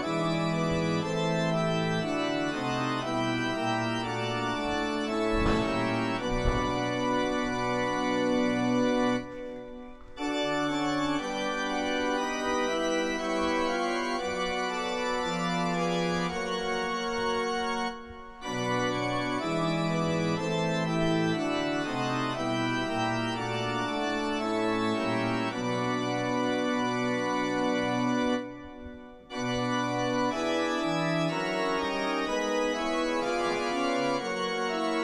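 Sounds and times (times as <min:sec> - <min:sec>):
organ playing slow chords: 0:00.0 - 0:35.0.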